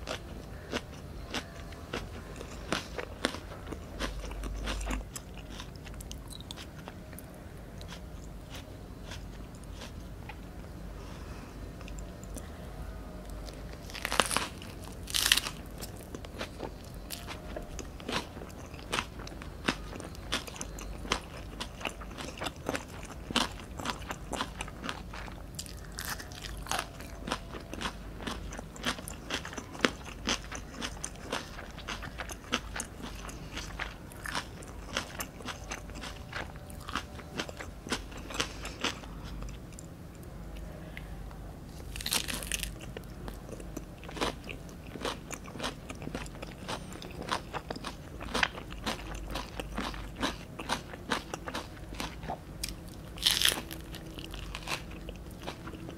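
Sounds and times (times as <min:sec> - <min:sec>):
crunchy biting and chewing: 0:00.0 - 0:10.4, 0:13.3 - 0:39.9, 0:41.7 - 0:55.9.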